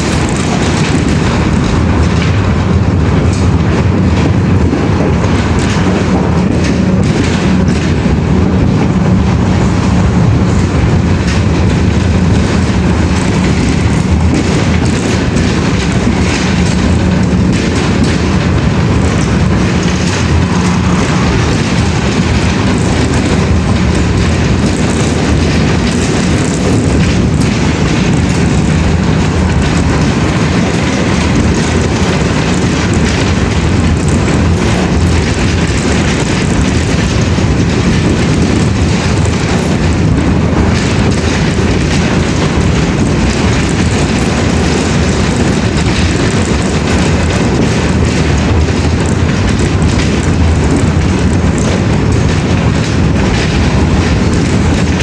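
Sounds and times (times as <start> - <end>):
steady rumbling with low hum: 0.0 - 55.0.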